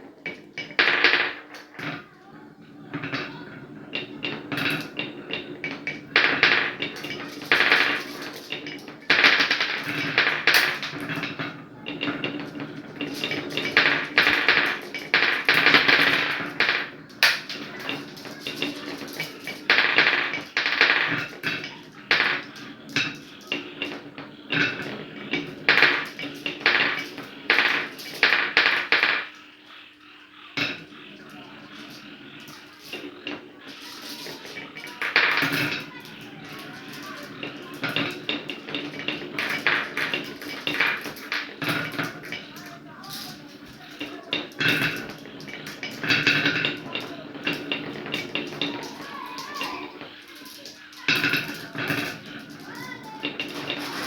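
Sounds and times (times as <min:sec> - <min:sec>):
marbles rolling on wooden track: 0:00.0 - 0:54.0.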